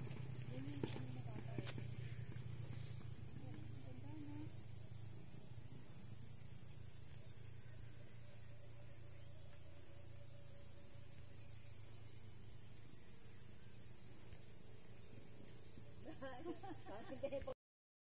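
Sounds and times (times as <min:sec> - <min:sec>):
low steady rumble: 0:00.0 - 0:16.1
insect chorus: 0:00.0 - 0:17.6.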